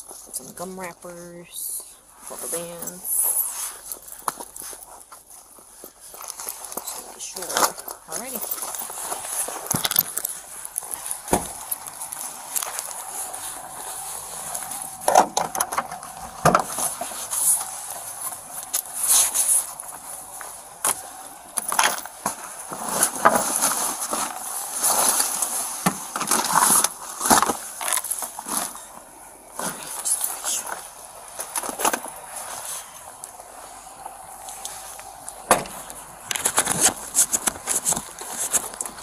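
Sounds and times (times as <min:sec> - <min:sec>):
clothing rustle: 0:01.9 - 0:39.0.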